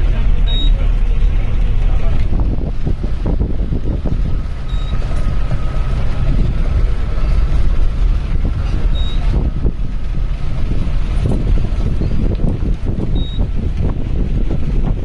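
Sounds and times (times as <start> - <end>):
low engine rumble: 0.0 - 15.0
wind buffeting microphone: 0.0 - 15.0.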